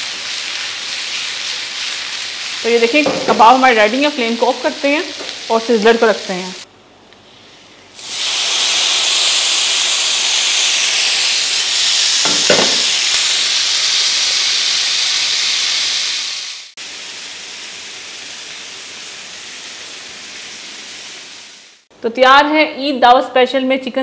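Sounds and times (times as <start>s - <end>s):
food sizzling on hot plate: 0.0s - 6.7s, 8.0s - 21.9s.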